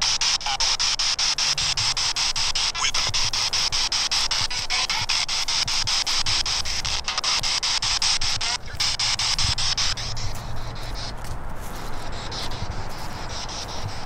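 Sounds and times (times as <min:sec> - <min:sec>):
radio static hiss: 0:00.0 - 0:14.0
rapid regular clicks: 0:00.0 - 0:14.0.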